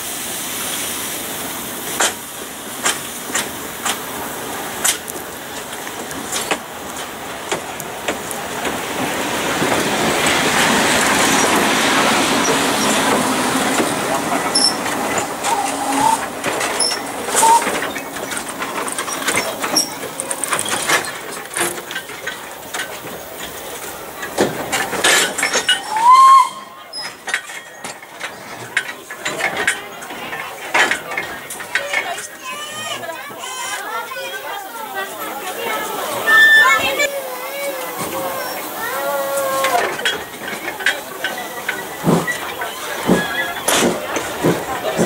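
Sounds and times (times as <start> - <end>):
steam locomotive passing: 0.0 - 45.0
wheels clattering over rails: 1.4 - 37.1, 37.8 - 45.0.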